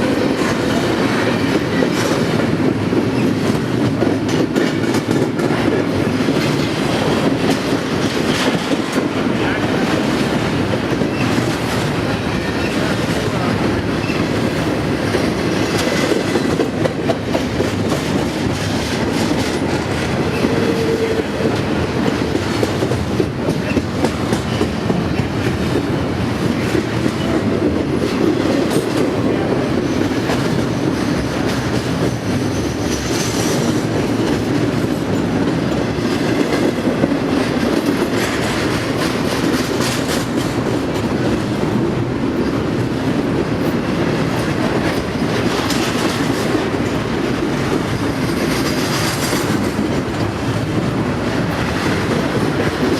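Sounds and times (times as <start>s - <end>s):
train wheels on rails: 0.0s - 52.9s.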